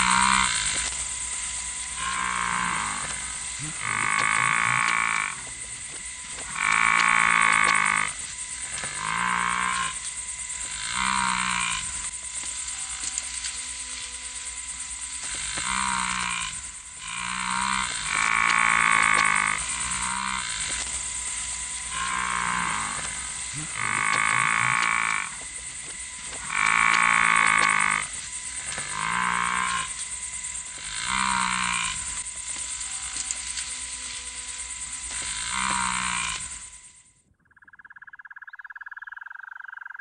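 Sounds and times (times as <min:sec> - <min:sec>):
croaking animal calls: 0:00.0 - 0:01.1, 0:01.7 - 0:34.2, 0:35.1 - 0:36.7, 0:37.3 - 0:40.0
steady high hiss: 0:00.0 - 0:37.0.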